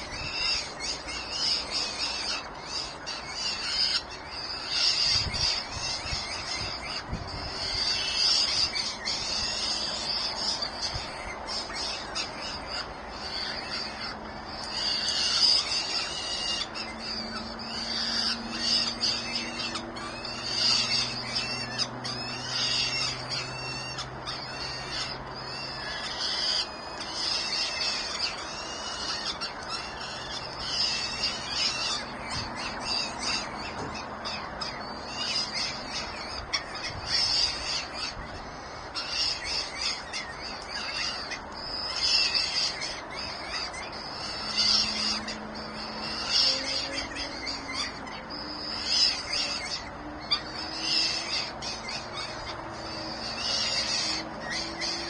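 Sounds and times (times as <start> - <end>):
birds calling with high cries: 0.0 - 55.0.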